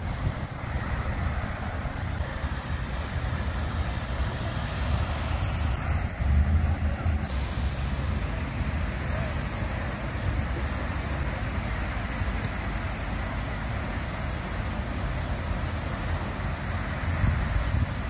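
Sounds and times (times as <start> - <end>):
wind buffeting microphone: 0.0 - 13.3, 15.0 - 18.0
fountain water rushing: 0.0 - 18.0.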